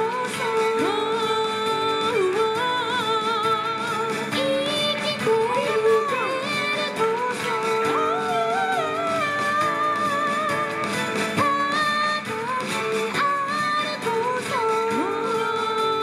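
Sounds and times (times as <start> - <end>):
plucked strings: 0.0 - 16.0
women singing folk song: 0.0 - 16.0.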